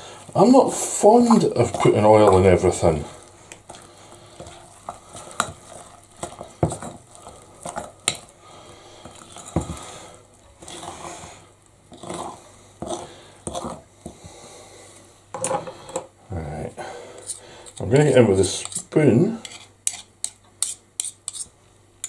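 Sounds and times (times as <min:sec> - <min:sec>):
fork stirring thick batter: 0:00.1 - 0:14.3, 0:17.1 - 0:21.5.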